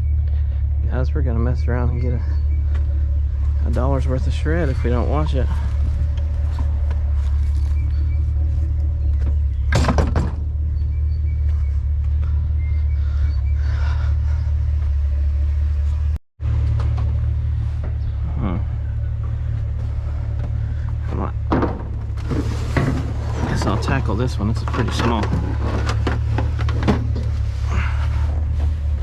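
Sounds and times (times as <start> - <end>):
low vehicle rumble: 0.0 - 29.0.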